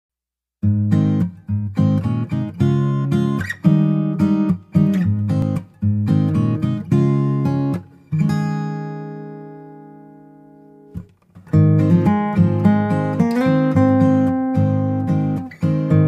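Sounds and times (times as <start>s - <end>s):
strummed acoustic guitar chords: 0.6s - 16.0s.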